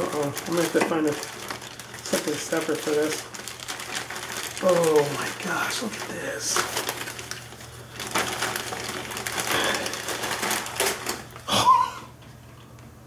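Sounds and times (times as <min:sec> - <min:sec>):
packing paper rustling and crinkling: 0:00.0 - 0:11.7.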